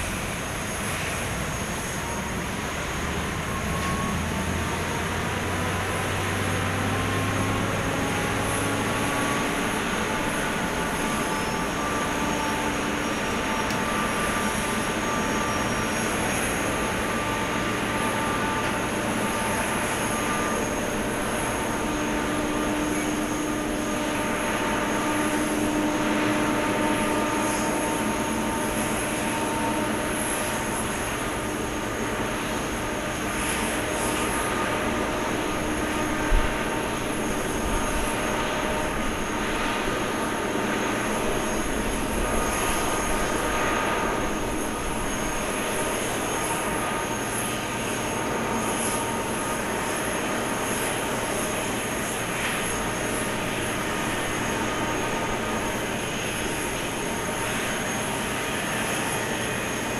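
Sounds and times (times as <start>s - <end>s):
high whining tones: 0.0s - 59.9s
jet airliner rushing hum: 0.0s - 59.9s.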